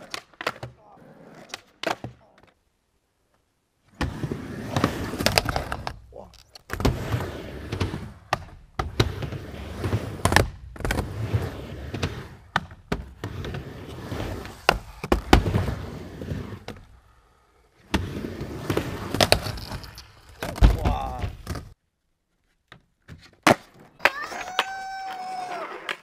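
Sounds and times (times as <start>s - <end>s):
skateboard striking ramp and coping: 0.0s - 2.6s, 3.3s - 21.8s, 22.4s - 26.0s
skateboard wheels rolling: 0.0s - 2.6s, 3.2s - 21.8s, 22.4s - 26.0s.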